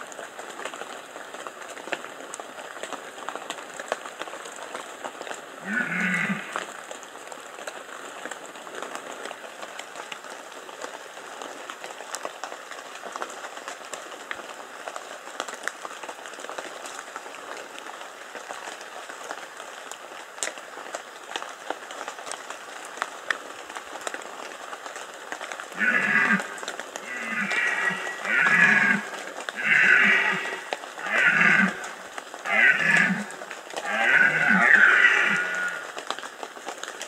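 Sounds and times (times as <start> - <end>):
light rain pattering on leaves: 0.0 - 37.0.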